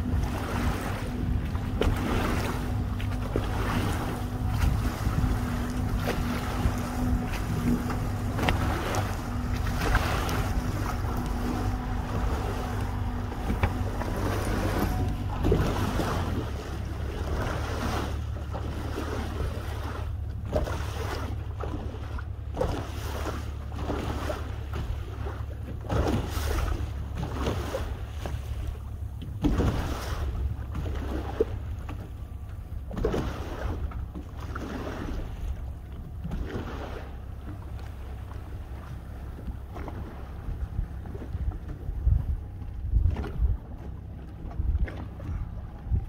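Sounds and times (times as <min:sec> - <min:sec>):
wind buffeting microphone: 0:00.0 - 0:21.6, 0:24.0 - 0:46.0
water lapping: 0:00.0 - 0:46.0.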